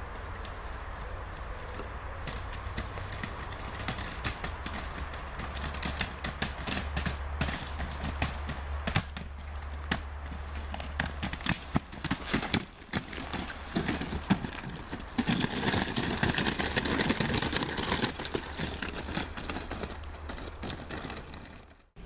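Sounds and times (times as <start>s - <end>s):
rustling of ferns and brush: 0.0s - 22.0s
footsteps over rubble: 1.8s - 22.0s.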